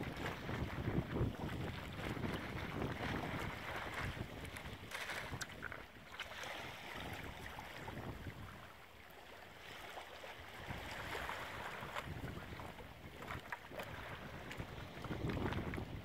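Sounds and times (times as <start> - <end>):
wind buffeting microphone: 0.0 - 5.9, 6.5 - 8.7, 10.5 - 16.0
small waves lapping: 0.0 - 16.0.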